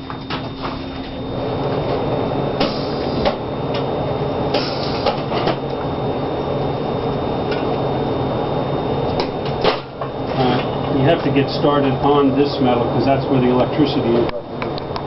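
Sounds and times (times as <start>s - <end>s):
welding arc buzzing and crackling: 0.0s - 15.0s.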